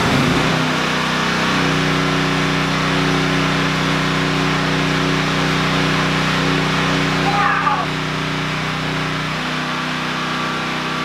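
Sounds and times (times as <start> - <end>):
generator engine droning: 0.0 - 11.0.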